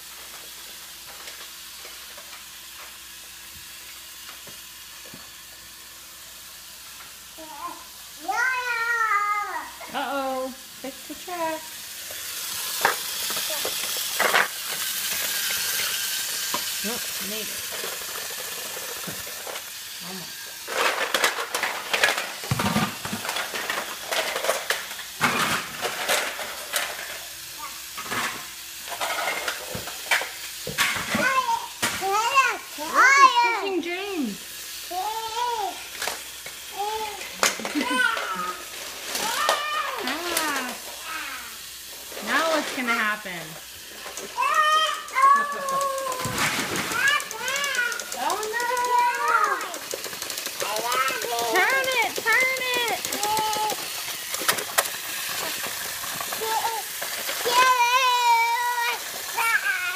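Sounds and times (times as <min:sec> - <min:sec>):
toy train and plastic track clicks: 0:00.0 - 0:59.9.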